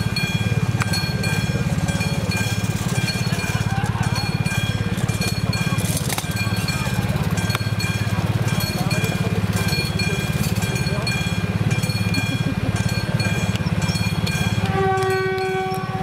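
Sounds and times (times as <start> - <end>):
level crossing warning bell ringing: 0.0 - 16.0
motorcycle engine idling: 0.0 - 16.0.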